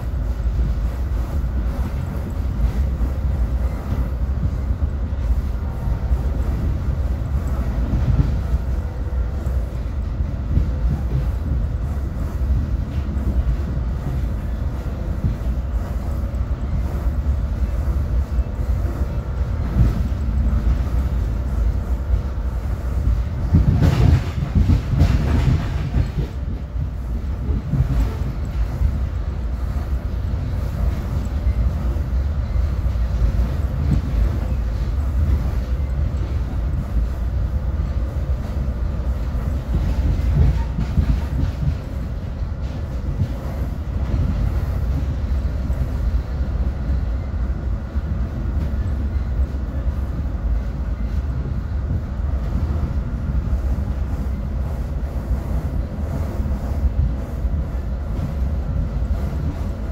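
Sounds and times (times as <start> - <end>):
train rattle: 0.0 - 59.9
train wheels rumbling on rails: 0.0 - 59.9.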